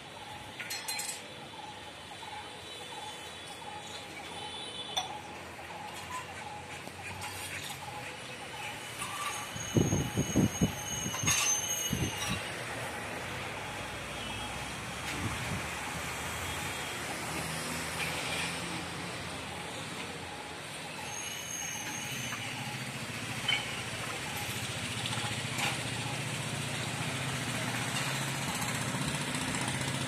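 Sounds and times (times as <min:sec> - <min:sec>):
motor vehicle humming: 0:05.4 - 0:30.0.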